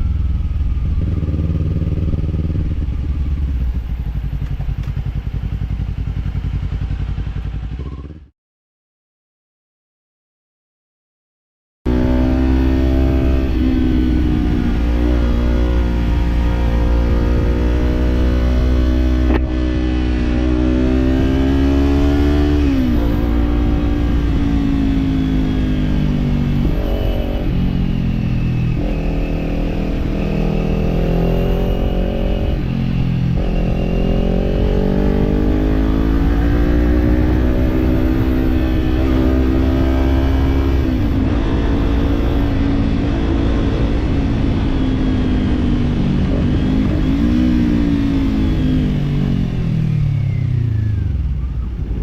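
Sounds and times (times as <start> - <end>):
wind and road rumble: 0.0 - 8.2, 11.9 - 52.0
motorcycle engine accelerating: 0.0 - 8.3, 11.9 - 52.0.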